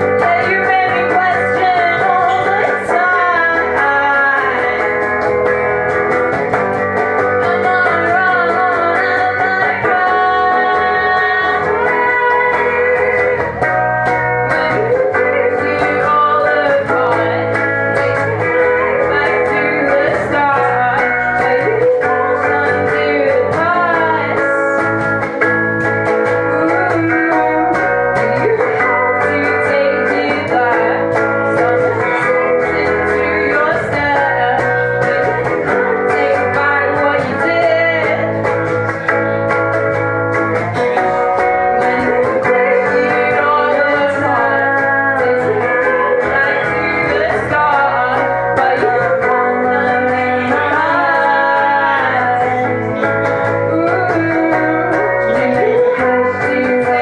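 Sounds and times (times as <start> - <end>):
rock band playing: 0.0 - 57.0
woman singing: 0.0 - 57.0.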